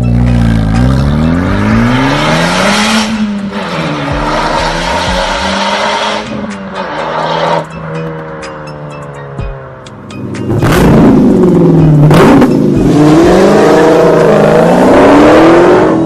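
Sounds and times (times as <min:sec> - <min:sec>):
car engine revving: 0:00.0 - 0:09.2, 0:09.8 - 0:16.0.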